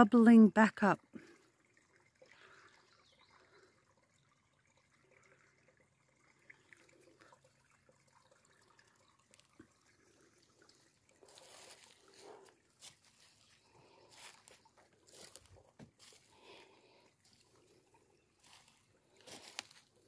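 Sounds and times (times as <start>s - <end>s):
faint water trickling: 0.0s - 20.0s
small water drips: 1.0s - 20.0s.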